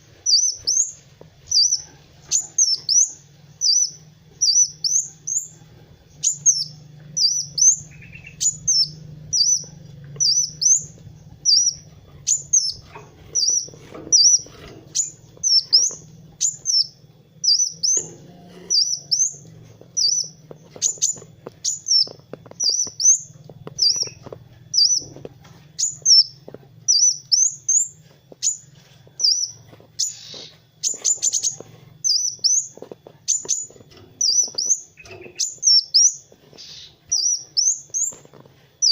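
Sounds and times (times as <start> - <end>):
faint low hum: 0.0 - 38.9
sunbird chirping: 0.0 - 38.9.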